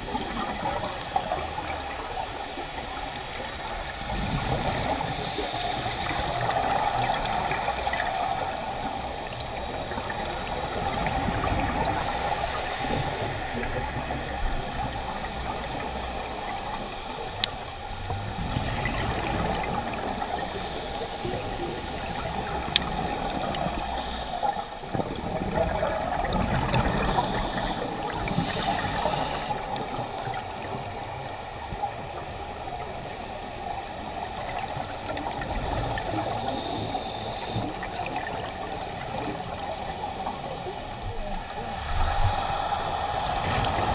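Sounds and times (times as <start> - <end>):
underwater breathing bubbles: 0.0 - 43.9.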